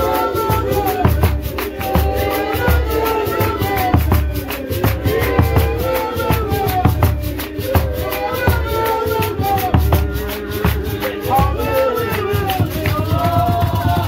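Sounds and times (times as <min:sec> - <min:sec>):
fast shaker rhythm: 0:00.0 - 0:14.0.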